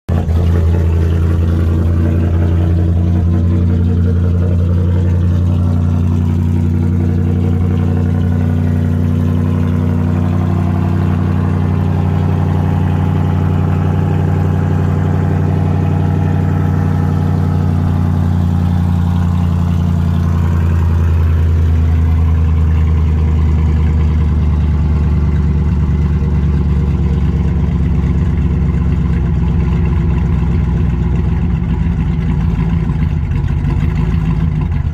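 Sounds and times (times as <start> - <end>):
pickup truck engine idling loud: 0.1 - 34.9.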